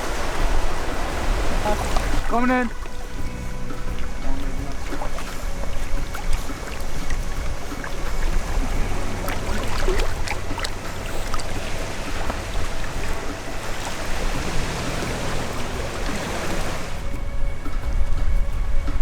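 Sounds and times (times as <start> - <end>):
waves washing against shore: 0.0 - 17.3
wind rumbling on microphone: 0.0 - 19.0.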